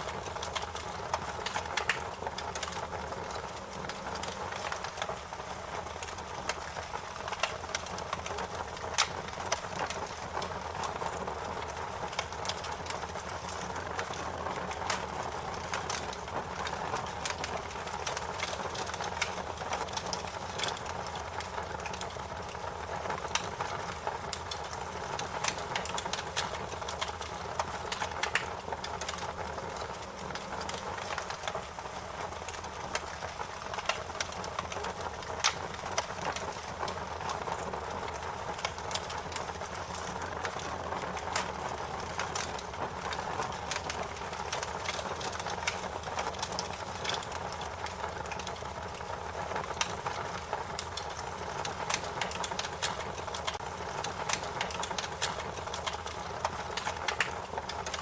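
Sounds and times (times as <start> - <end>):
sharp pops and snaps: 0.0 - 14.2, 14.8 - 58.0
wood fire crackling: 0.0 - 58.0.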